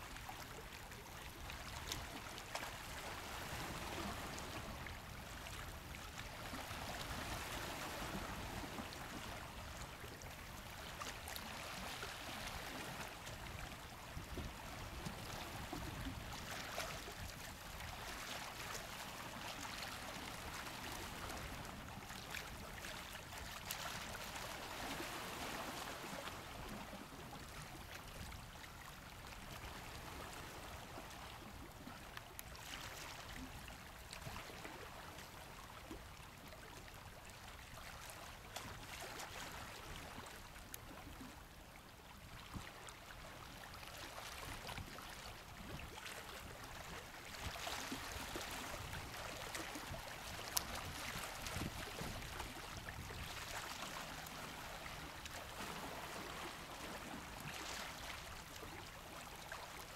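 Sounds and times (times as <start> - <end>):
waves lapping against rocks: 0.1 - 59.9
faint splashes: 1.1 - 59.9.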